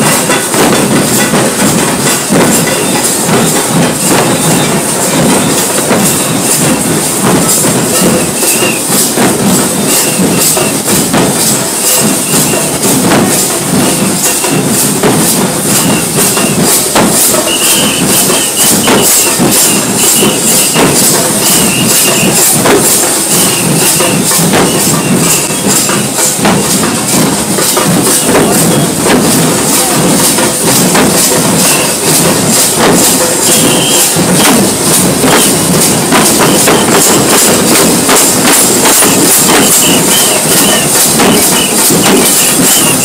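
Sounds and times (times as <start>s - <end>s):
drums beaten with sticks: 0.0s - 43.0s.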